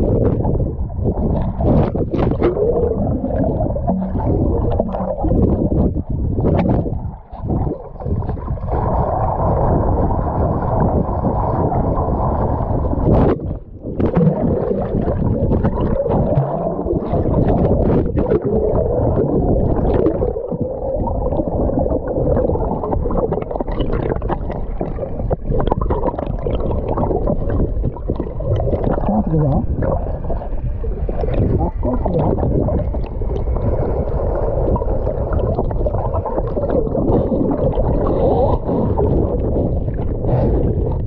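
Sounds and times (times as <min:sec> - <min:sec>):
muffled underwater rushing and bubbling: 0:00.0 - 0:41.0.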